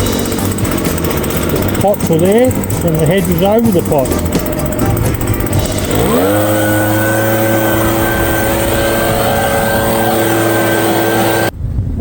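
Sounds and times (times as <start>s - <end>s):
hedge trimmer motor revving: 0.0s - 11.5s.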